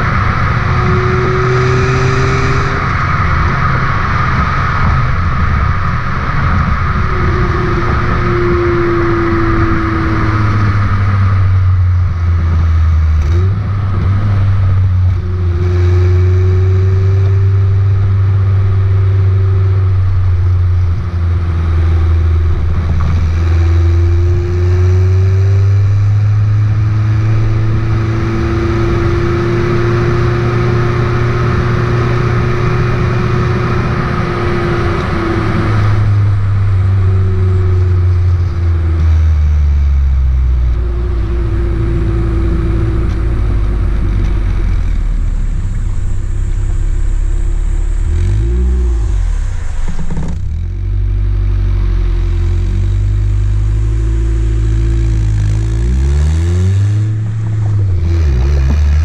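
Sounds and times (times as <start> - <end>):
car engine exhaust while driving: 0.0 - 59.0.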